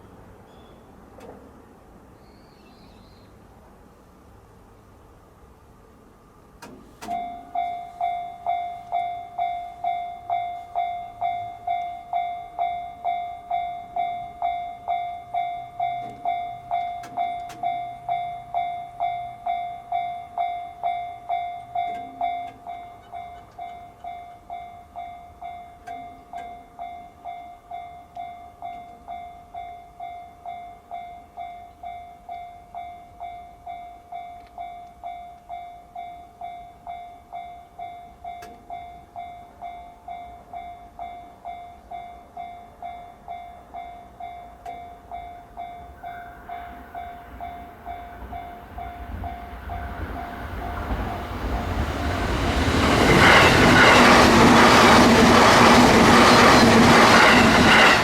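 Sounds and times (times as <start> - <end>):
level crossing warning bell: 7.0 - 58.0.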